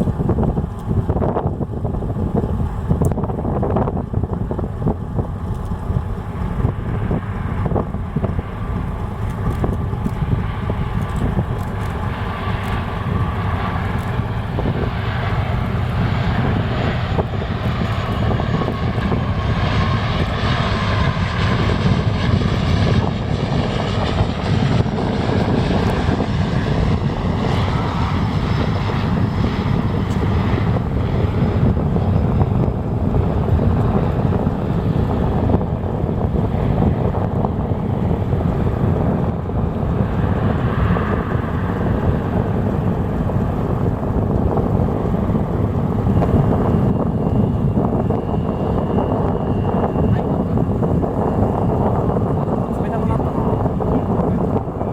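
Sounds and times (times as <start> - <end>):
jet airliner flying past: 0.0 - 54.9.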